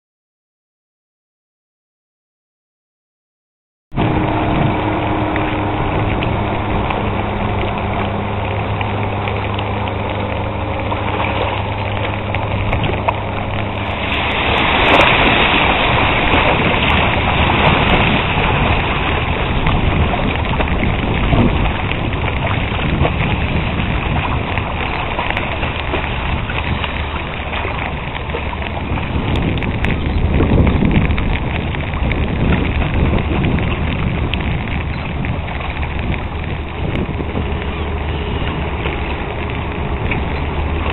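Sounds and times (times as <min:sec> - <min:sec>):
ship diesel engine hum: 0:03.9 - 0:40.9
wind buffeting microphone: 0:03.9 - 0:40.9.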